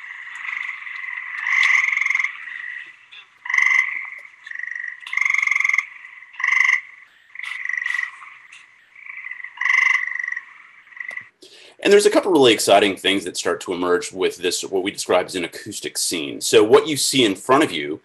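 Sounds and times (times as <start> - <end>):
tree frogs trilling: 0.0 - 18.0.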